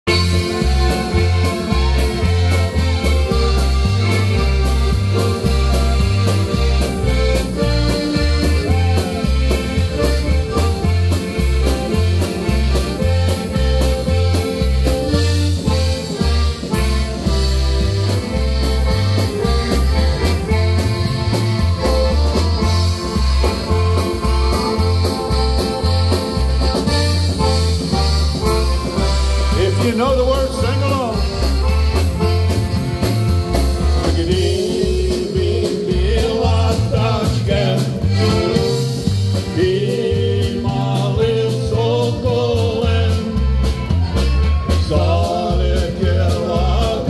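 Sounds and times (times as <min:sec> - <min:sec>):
accordions playing lively tune: 0:00.0 - 0:47.0
bass line: 0:00.0 - 0:47.0
steady beat: 0:00.1 - 0:41.6.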